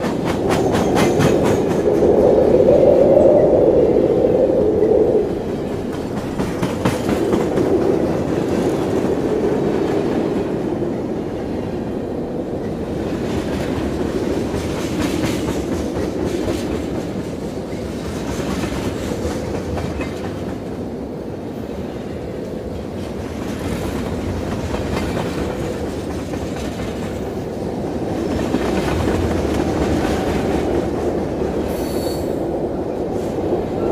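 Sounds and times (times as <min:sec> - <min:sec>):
monorail train rumble: 0:00.0 - 0:33.9.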